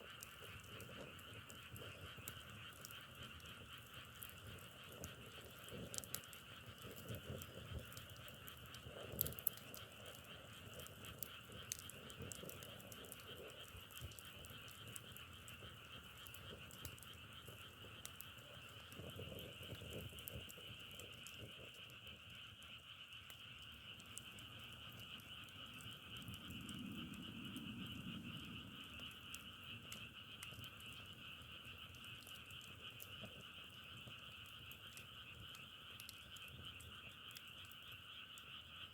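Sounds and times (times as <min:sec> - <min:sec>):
faint clicks: 0:00.1 - 0:38.6.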